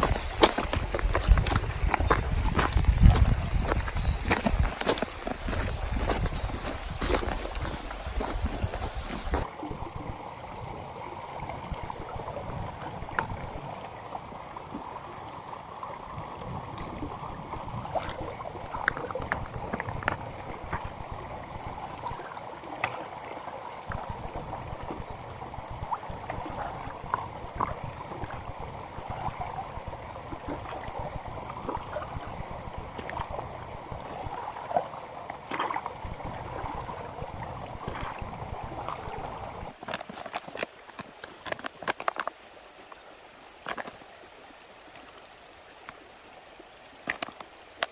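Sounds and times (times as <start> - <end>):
small water splashes: 0.0 - 47.9
stream gurgling and trickling: 0.0 - 47.9.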